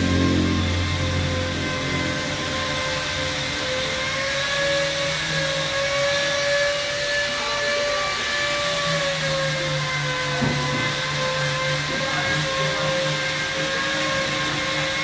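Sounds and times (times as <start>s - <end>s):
motor whining: 0.0s - 15.0s.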